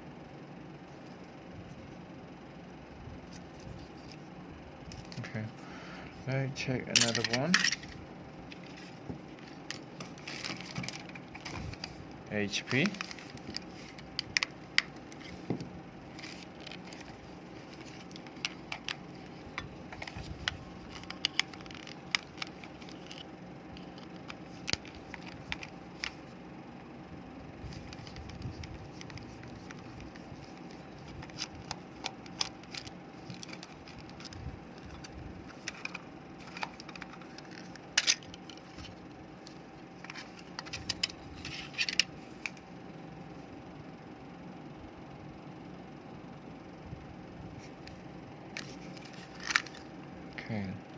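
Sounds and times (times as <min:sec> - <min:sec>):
faint hum: 0:00.0 - 0:50.9.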